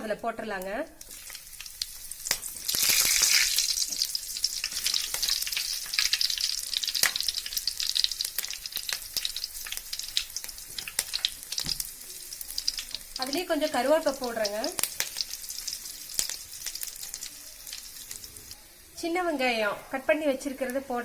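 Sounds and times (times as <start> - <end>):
chillies sizzling in hot oil: 0.0 - 21.0.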